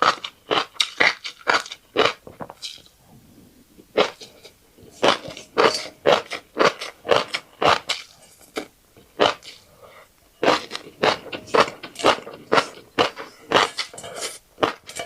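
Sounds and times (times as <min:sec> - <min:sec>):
wet crunchy chewing: 0:00.0 - 0:02.9, 0:04.0 - 0:09.7, 0:10.4 - 0:15.0.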